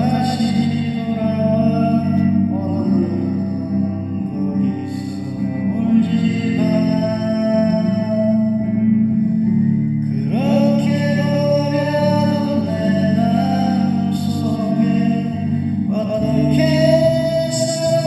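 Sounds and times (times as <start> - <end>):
pop song with held chords: 0.0 - 18.0.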